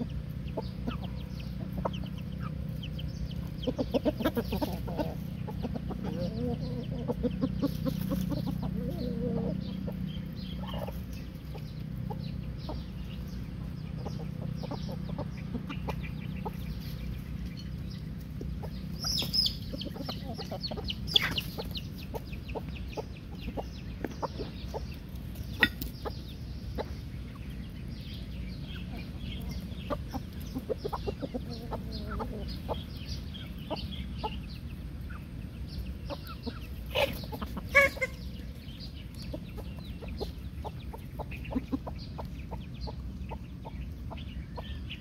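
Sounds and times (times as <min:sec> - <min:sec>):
roosters clucking: 0:00.0 - 0:45.0.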